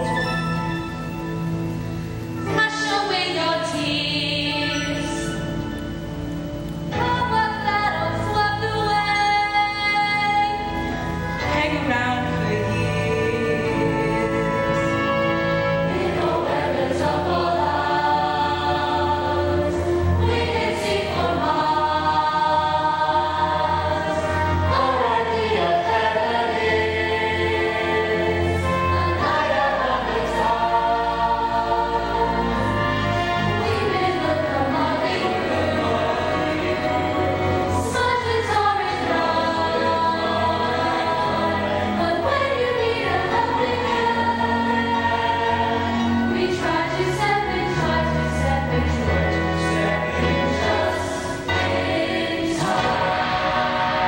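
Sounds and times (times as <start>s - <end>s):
chorus singing held notes: 0.0s - 54.0s
musical accompaniment: 0.0s - 54.0s.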